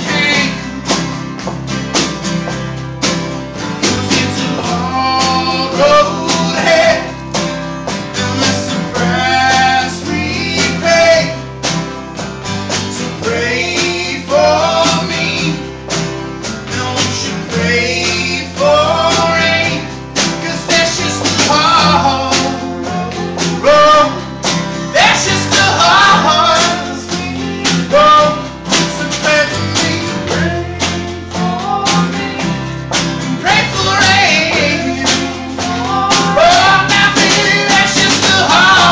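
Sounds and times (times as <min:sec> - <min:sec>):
man singing: 0:00.0 - 0:01.0, 0:03.8 - 0:07.4, 0:08.0 - 0:11.5, 0:13.0 - 0:15.8, 0:16.5 - 0:38.9
live country band playing: 0:00.0 - 0:38.9
steel guitar: 0:00.0 - 0:38.9
snare drum: 0:00.2 - 0:38.9.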